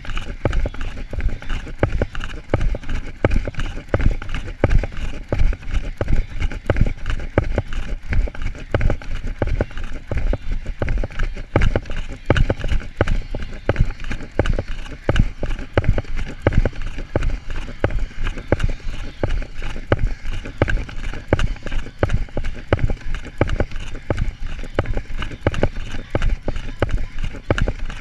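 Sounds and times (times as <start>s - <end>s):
running footfalls: 0.0s - 28.0s.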